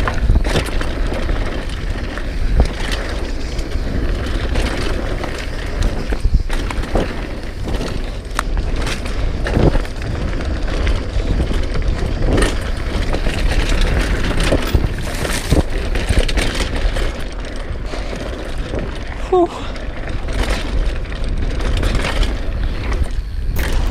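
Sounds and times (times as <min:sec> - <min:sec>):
bike rattling and knocking: 0:00.0 - 0:23.9
tyres rumbling over dirt: 0:00.0 - 0:23.9
wind buffeting microphone: 0:00.0 - 0:23.9.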